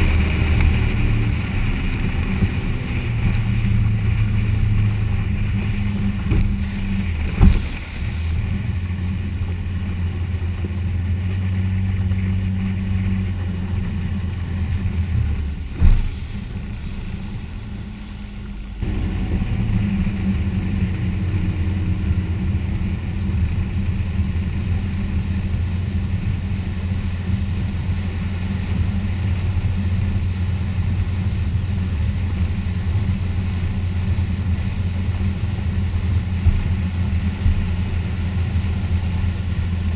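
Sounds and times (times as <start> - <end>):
boat engine running: 0.0 - 39.9
wind and water noise: 0.0 - 39.9.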